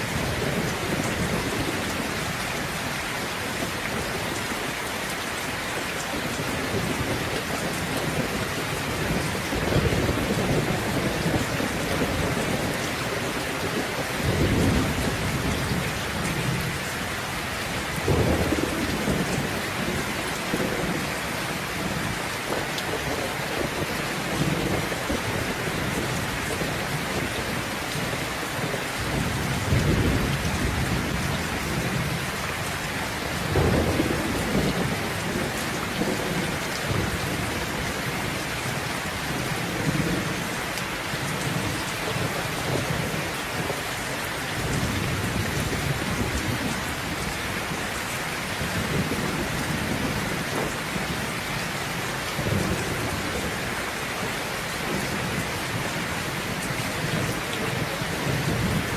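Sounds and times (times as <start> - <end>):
steady rain falling: 0.0 - 58.9
thunder rumbling: 6.2 - 58.9.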